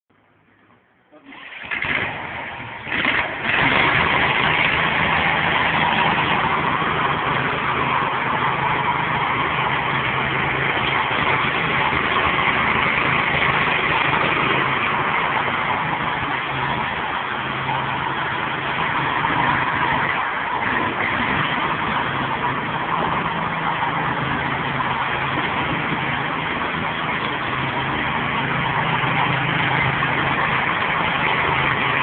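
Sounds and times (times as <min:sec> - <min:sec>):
power trowel engine running: 0:01.2 - 0:32.0.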